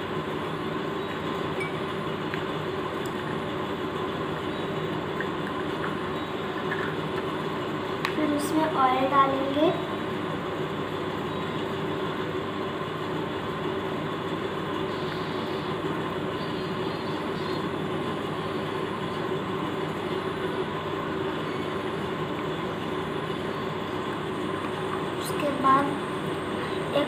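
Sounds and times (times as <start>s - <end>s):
steady mechanical drone: 0.0s - 27.0s.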